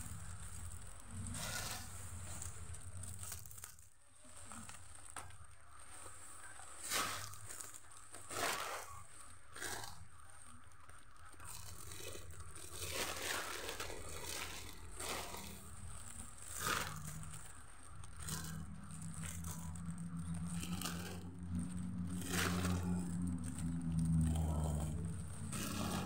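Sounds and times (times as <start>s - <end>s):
foil balloons crinkling: 0.0s - 26.0s.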